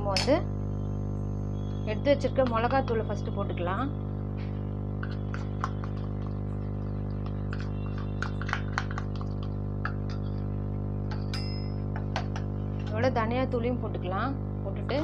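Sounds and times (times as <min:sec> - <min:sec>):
steady tonal hum: 0:00.0 - 0:15.0.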